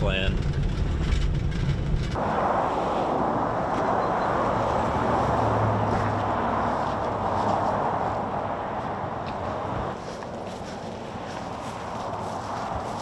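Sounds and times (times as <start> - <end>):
traffic tyre noise: 0.0 - 13.0
vehicle cabin drone: 0.0 - 13.0
passing vehicle engine hum: 2.2 - 13.0.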